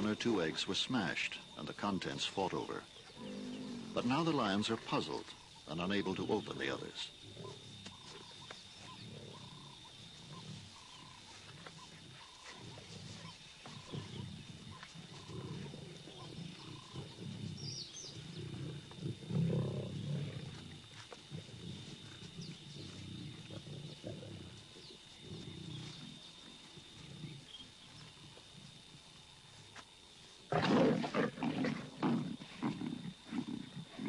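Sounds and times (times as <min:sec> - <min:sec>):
lions growling: 0:02.5 - 0:29.5, 0:30.4 - 0:34.0.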